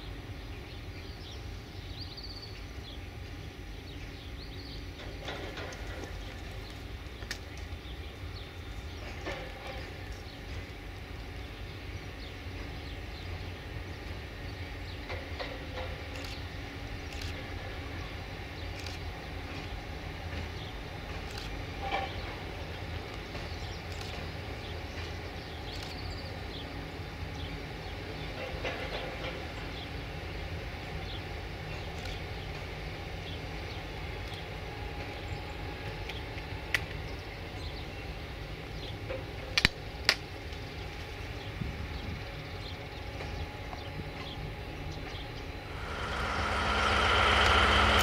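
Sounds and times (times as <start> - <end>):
train low rumble: 0.0 - 48.0.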